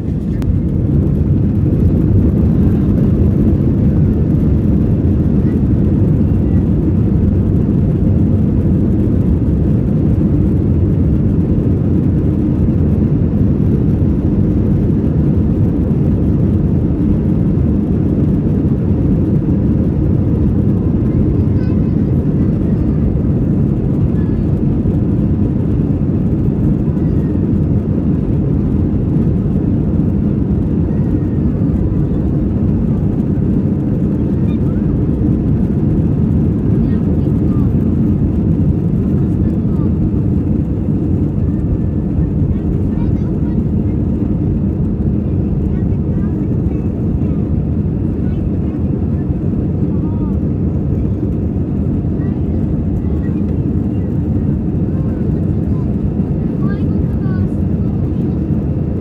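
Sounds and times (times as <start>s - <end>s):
jet engines rumbling in cabin: 0.0s - 59.0s
plane rolling on runway: 0.0s - 59.0s.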